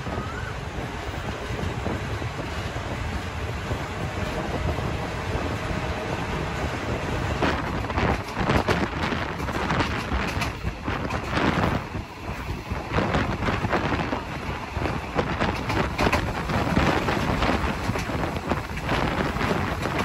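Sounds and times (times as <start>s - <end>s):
train running on rails: 0.0s - 20.0s
wind buffeting microphone: 0.0s - 20.0s.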